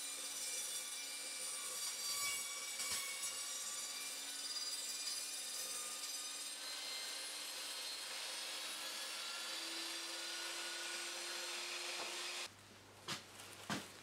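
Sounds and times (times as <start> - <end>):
chop saw cutting wood: 0.0 - 12.5.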